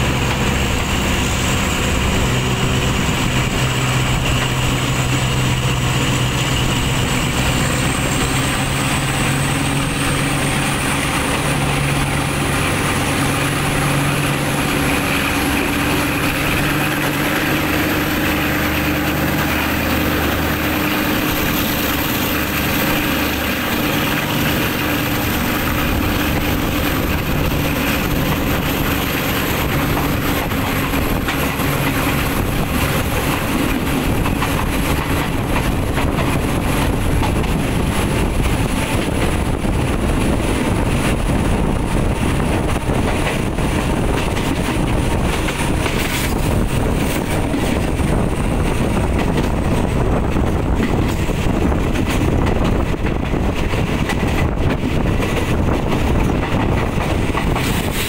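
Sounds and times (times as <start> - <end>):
train engine drone: 0.0 - 58.0
train rail noise: 0.0 - 58.0
wind buffeting microphone: 0.0 - 58.0.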